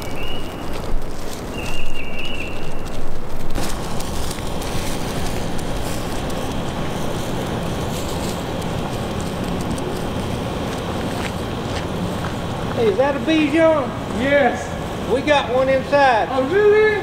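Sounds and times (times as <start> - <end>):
faint crackles: 0.0 - 14.2
steady rushing noise: 0.0 - 17.0.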